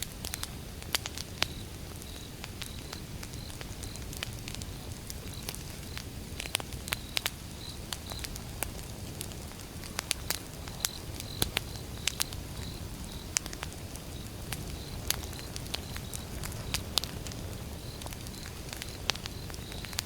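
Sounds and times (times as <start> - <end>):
campfire logs crackling: 0.0 - 20.0.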